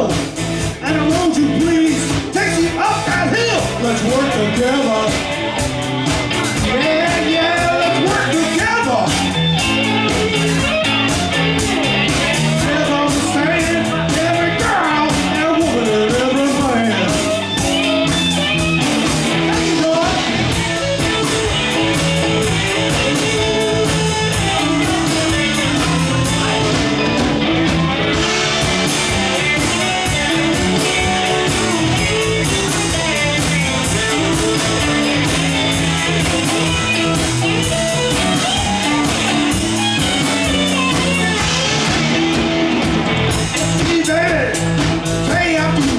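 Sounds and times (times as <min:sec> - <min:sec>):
drum kit beat: 0:00.0 - 0:45.9
electric bass: 0:00.0 - 0:45.9
electric guitars: 0:00.0 - 0:45.9.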